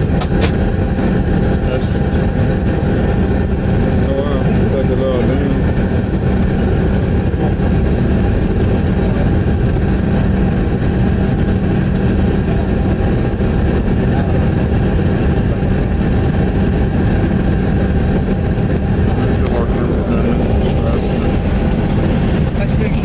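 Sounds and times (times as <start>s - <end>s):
jet engines and airflow roar: 0.0s - 23.0s
low hum: 0.0s - 23.0s.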